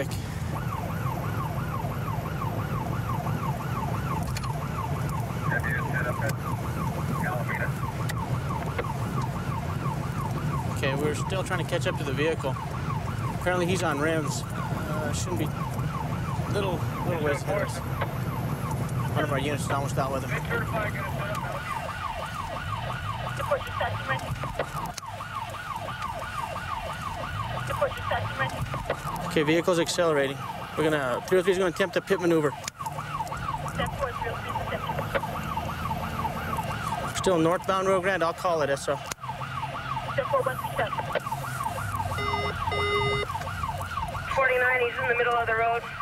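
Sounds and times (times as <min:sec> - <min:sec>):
car engine and tyres rumbling: 0:00.0 - 0:46.0
police siren yelp: 0:00.0 - 0:46.0.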